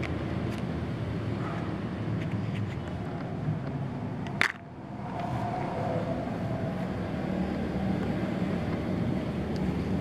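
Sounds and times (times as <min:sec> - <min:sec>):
outdoor background rumble: 0:00.0 - 0:10.0.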